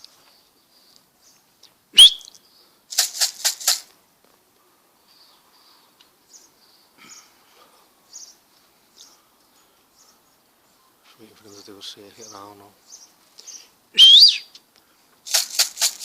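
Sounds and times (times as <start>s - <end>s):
small birds chirping: 0.0s - 2.9s, 4.4s - 15.0s.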